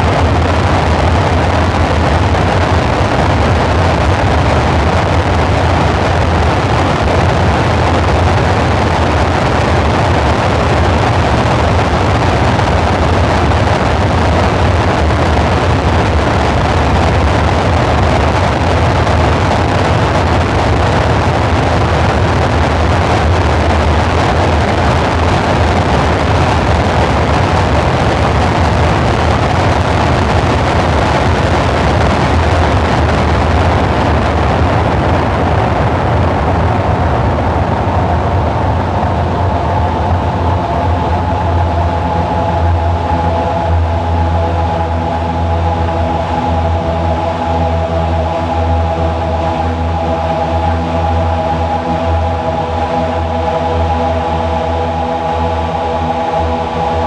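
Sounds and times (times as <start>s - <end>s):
dark ambient synthesizer drone: 0.0s - 57.0s.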